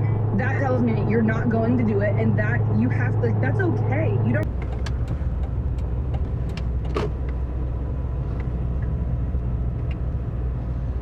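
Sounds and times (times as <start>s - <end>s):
truck cab road rumble: 0.0s - 11.0s.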